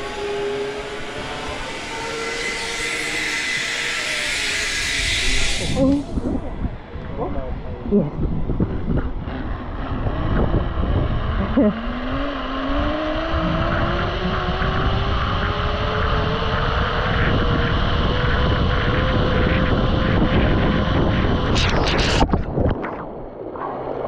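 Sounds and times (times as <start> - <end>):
zipline trolley whine: 0.0 - 22.3
wind rushing on microphone: 0.0 - 24.0.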